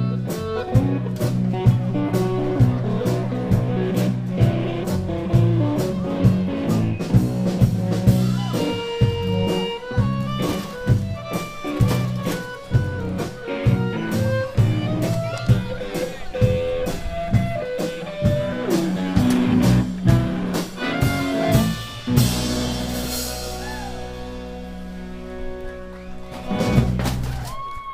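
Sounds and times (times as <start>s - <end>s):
drum kit: 0.0s - 27.9s
live blues band playing: 0.0s - 27.9s.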